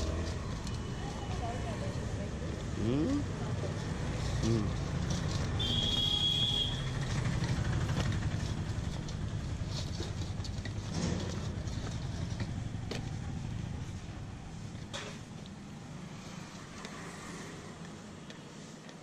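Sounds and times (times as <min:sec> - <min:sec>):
low rumble of street traffic: 0:00.0 - 0:19.0.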